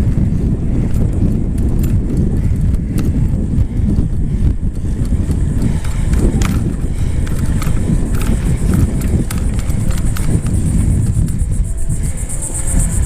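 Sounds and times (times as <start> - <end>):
bicycle clicks and rattles: 0.0 - 13.0
wind rumbling on microphone: 0.0 - 13.0.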